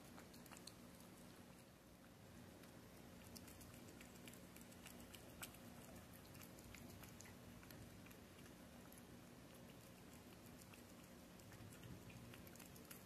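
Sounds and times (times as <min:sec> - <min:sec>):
cat chewing and licking: 0:00.0 - 0:13.0.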